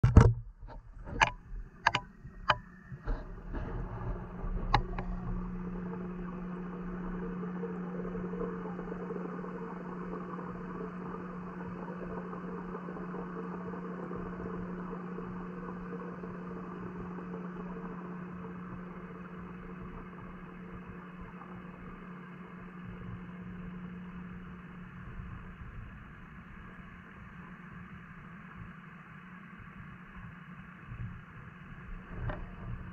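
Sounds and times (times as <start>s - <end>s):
low mechanical hum: 0.0s - 32.9s
muffled underwater water noise: 0.0s - 32.9s.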